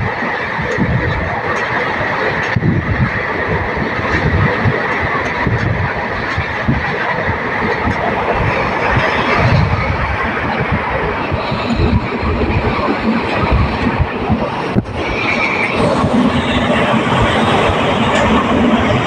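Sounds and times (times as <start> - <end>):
train wheels on track: 0.0 - 19.0.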